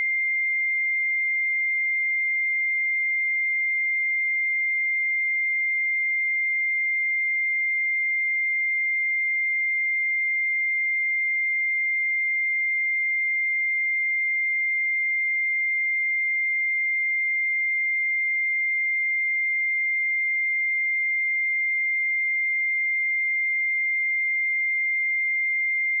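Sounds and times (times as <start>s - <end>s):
sine wave test tone: 0.0s - 26.0s.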